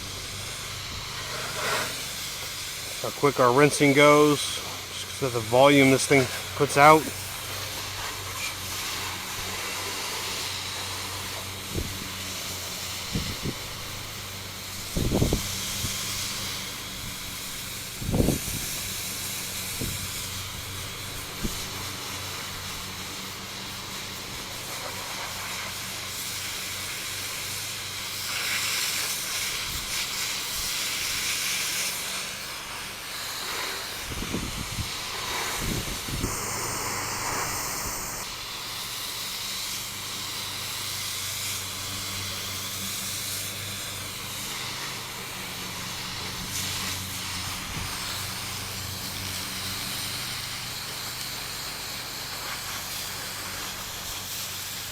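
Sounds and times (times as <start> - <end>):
constant low hum: 0.0 - 54.9
pressure washer spray hissing: 0.0 - 54.9.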